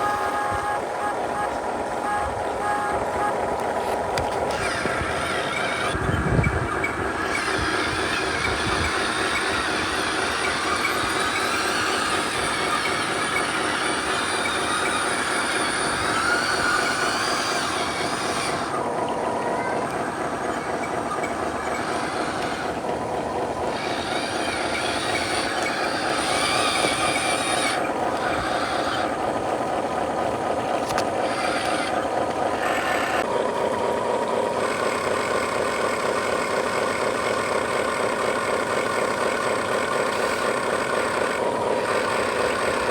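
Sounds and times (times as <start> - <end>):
remote-control truck drone: 0.0 - 42.9.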